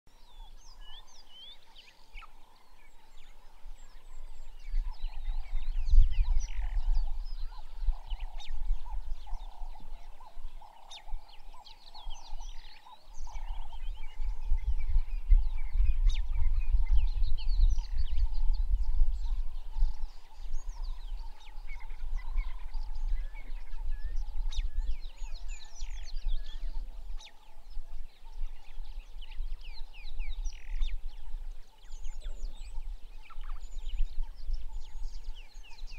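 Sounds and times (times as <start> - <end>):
bird chirps: 0.1 - 35.9
wind rumble on microphone: 0.1 - 35.9.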